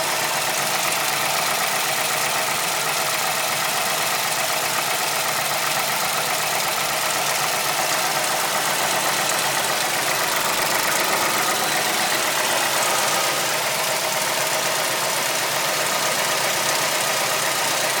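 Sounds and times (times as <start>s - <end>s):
car engine running with knocking: 0.0s - 18.0s.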